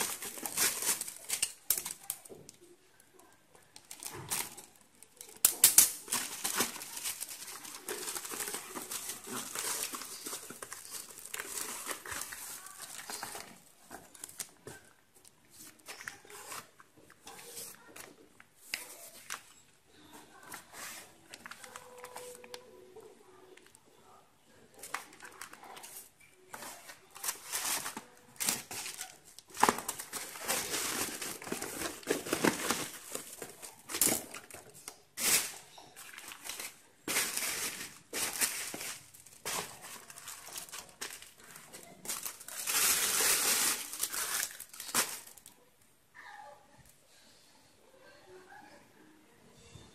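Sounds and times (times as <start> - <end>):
plastic bags crinkling: 0.0 - 22.6, 24.5 - 45.6.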